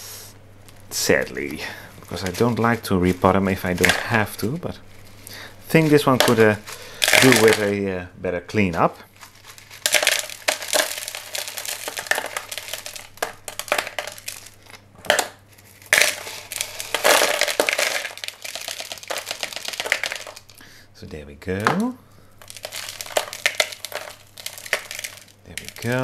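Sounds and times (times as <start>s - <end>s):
plastic pots crinkling: 0.6s - 26.0s
potting mix dropping into bowl: 0.8s - 7.9s, 8.6s - 20.6s, 21.6s - 26.0s.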